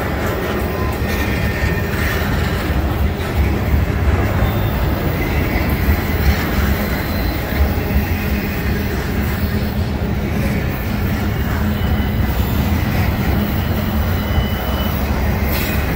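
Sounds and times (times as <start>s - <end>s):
freight train wheels rumbling: 0.0s - 15.9s.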